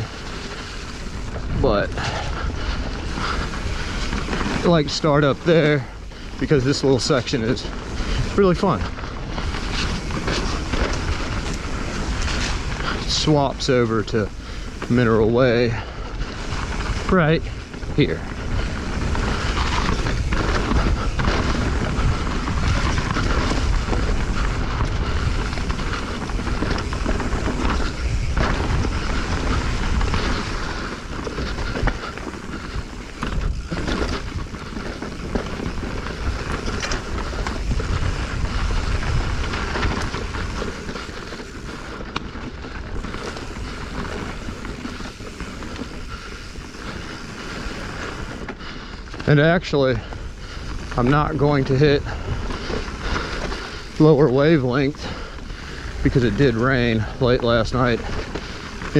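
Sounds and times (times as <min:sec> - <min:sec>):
bike rattling clicks and knocks: 0:00.0 - 0:58.9
bike tyre noise on dirt: 0:00.0 - 0:58.9
wind rumbling on microphone: 0:00.0 - 0:58.9.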